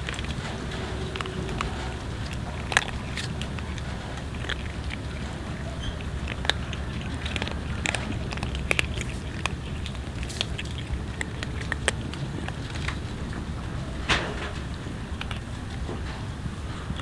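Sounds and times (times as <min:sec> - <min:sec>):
cats chewing food: 0:00.0 - 0:17.0
steady low rumble: 0:00.0 - 0:17.0.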